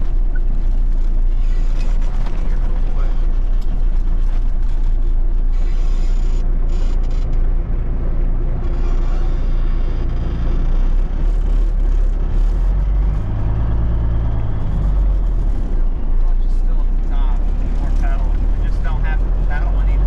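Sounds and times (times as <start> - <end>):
diesel engine running: 0.0 - 20.0
road noise: 0.0 - 20.0.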